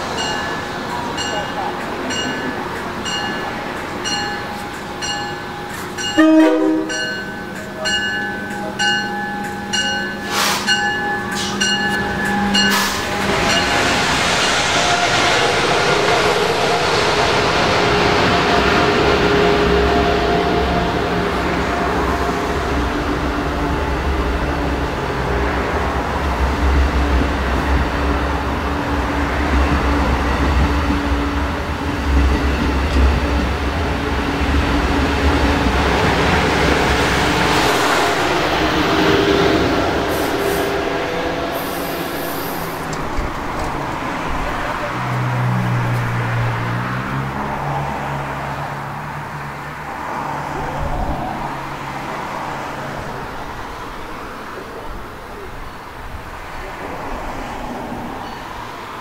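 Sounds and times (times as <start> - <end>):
train passing with heavy rumble: 0.0 - 59.0.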